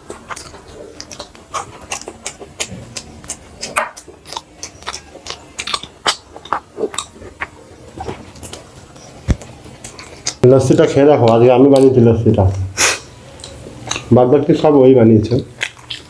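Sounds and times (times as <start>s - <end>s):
chewing with wet mouth clicks: 0.0s - 12.6s, 13.3s - 16.0s.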